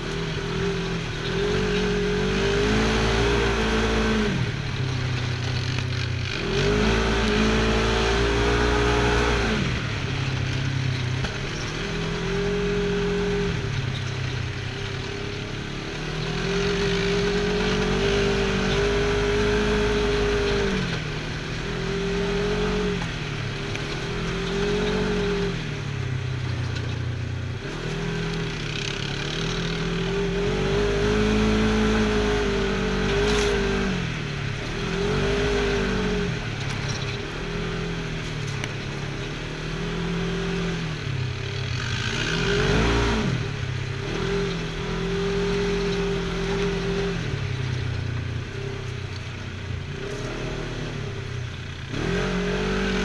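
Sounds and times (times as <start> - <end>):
utility vehicle engine revving: 0.0 - 53.0.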